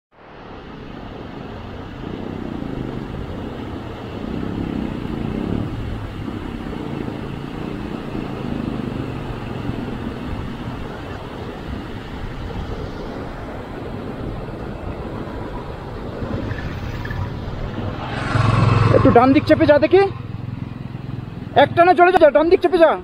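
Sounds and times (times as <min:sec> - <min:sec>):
fast-flowing stream rushing: 0:00.2 - 0:23.0
motorcycle engine at low revs: 0:01.6 - 0:12.6, 0:13.4 - 0:22.5.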